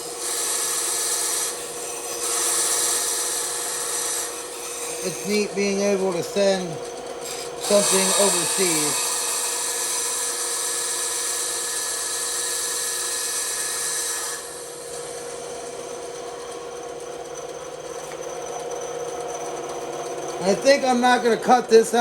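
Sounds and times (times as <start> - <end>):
bandsaw cutting wood: 0.0 - 22.0
saw motor humming: 0.0 - 22.0.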